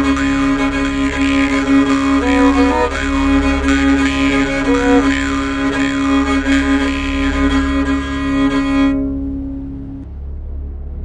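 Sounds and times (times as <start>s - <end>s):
bowed lyre slow melody: 0.0s - 10.1s
deep low drone: 0.0s - 11.0s.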